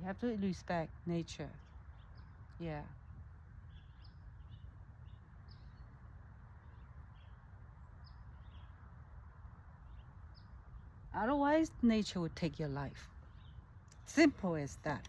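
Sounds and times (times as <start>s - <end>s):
low outdoor hum: 0.0s - 15.0s
small birds chirping: 0.0s - 15.0s.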